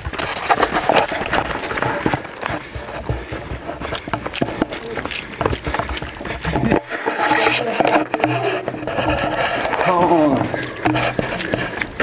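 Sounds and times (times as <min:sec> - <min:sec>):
footsteps on stony path: 0:00.0 - 0:12.0.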